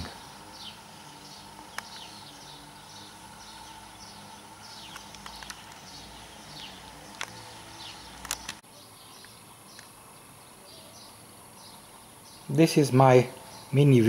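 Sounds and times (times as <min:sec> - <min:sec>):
outdoor background noise: 0:00.0 - 0:14.0
small bird chirping: 0:00.0 - 0:14.0
steady hum: 0:00.0 - 0:14.0.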